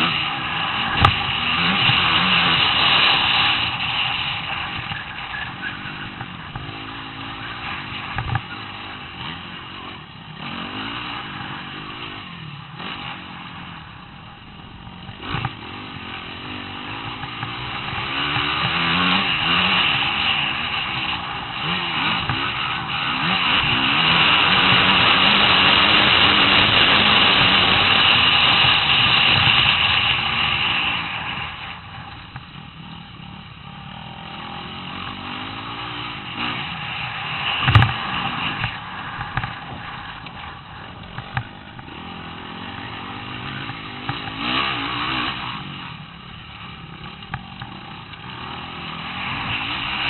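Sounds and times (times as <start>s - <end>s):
dirt bike engine: 0.0s - 50.0s.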